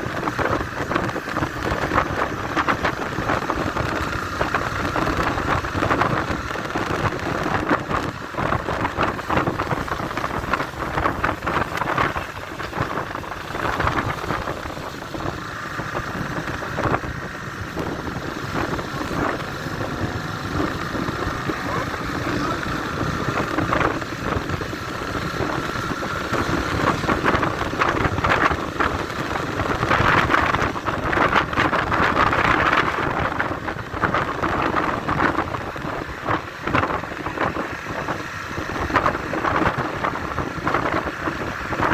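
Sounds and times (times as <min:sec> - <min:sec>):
motorcycle engine running: 0:00.0 - 0:41.9
wind buffeting on microphone: 0:00.0 - 0:41.9.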